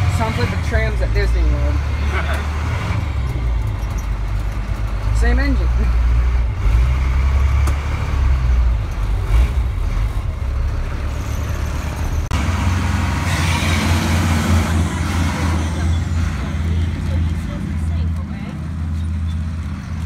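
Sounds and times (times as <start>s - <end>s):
diesel bus engine droning: 0.0s - 20.0s.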